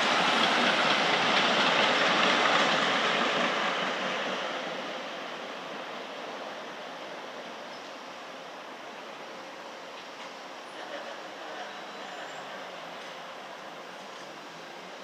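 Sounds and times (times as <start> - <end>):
light rail train passing: 0.0 - 15.0.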